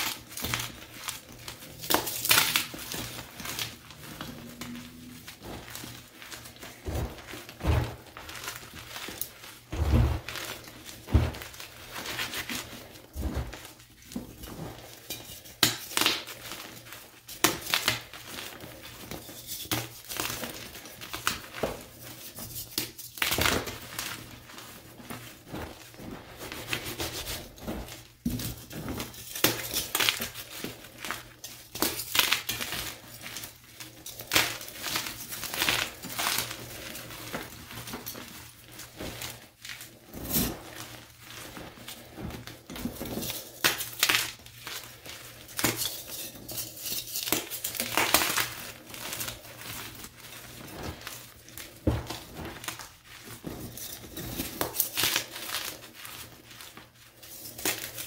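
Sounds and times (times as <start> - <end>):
chalk crunching and crumbling: 0.0 - 58.0.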